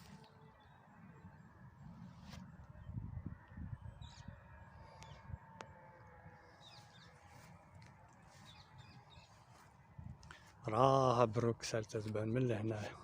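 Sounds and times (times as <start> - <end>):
birds chirping: 0.0 - 13.0
wind rumble on microphone: 0.0 - 13.0.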